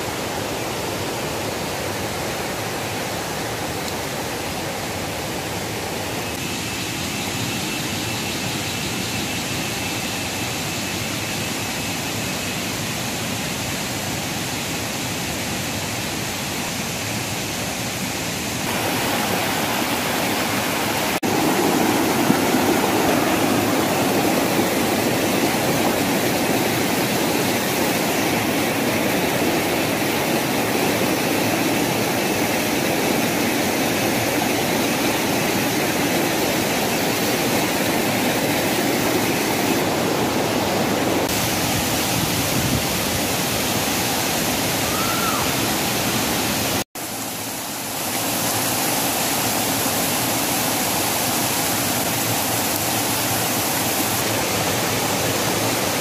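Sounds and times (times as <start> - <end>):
waterfall rushing: 0.0 - 6.4, 13.0 - 56.0
fast-flowing stream: 0.0 - 11.5, 12.1 - 56.0.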